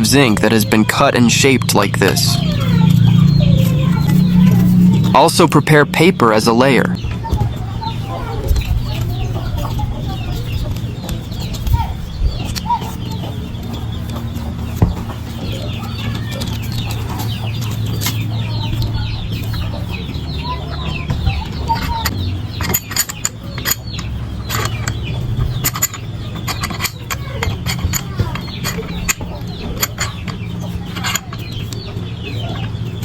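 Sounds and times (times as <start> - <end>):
chickens clucking: 0.0 - 33.0
sharp clicks and taps: 0.0 - 33.0
steady low hum: 0.0 - 33.0.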